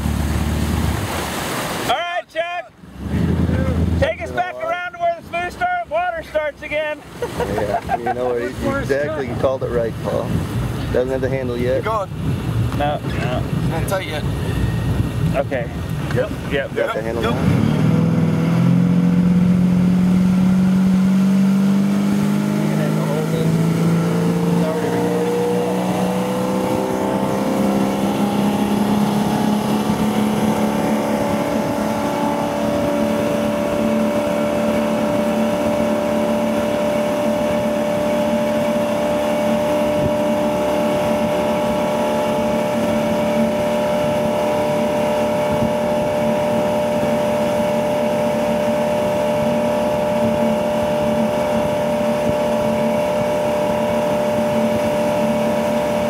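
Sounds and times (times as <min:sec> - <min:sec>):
boat engine at high revs: 0:00.0 - 0:56.0.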